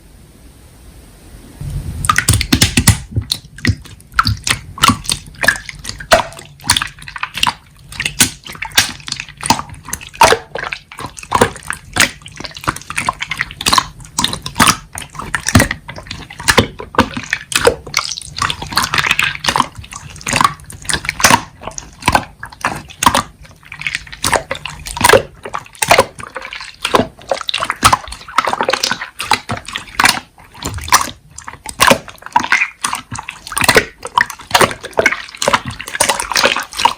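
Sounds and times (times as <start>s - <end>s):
slime squelching by hand: 2.0s - 36.9s.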